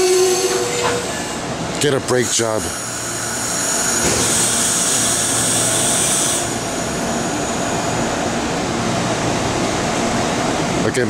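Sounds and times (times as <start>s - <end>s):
train rushing noise: 0.0s - 11.0s.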